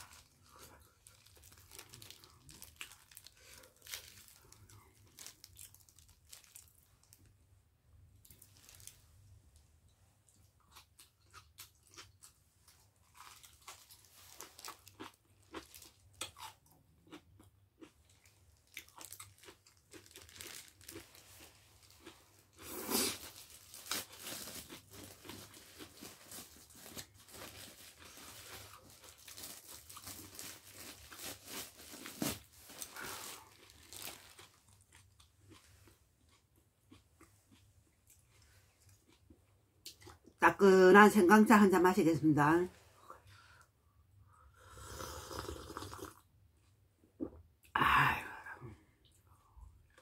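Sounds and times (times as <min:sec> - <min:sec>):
crunching and chewing kimchi: 0:00.0 - 0:07.4, 0:08.1 - 0:40.4, 0:48.8 - 0:50.0.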